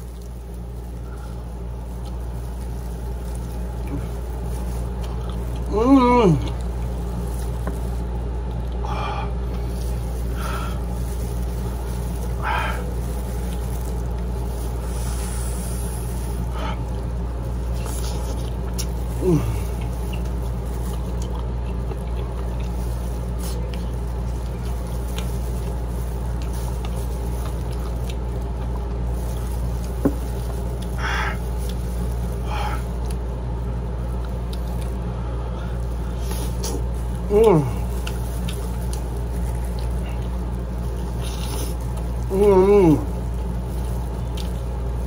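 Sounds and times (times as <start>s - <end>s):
wet smacks and chewing: 0.0s - 5.7s, 6.4s - 14.9s, 16.0s - 35.2s, 35.8s - 42.2s, 43.1s - 45.0s
low hum: 0.0s - 45.0s.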